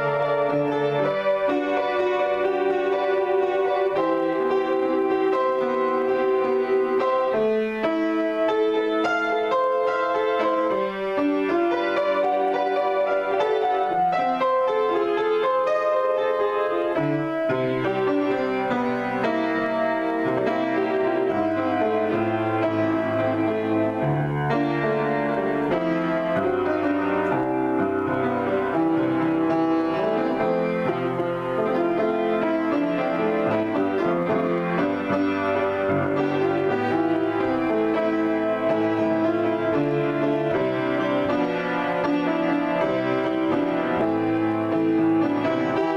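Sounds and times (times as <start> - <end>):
solo piano: 0.0 - 45.9.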